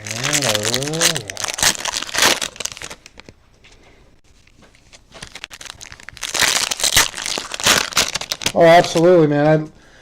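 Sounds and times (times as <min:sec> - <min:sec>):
foil wrappers crinkling: 0:00.0 - 0:03.4, 0:04.3 - 0:09.2.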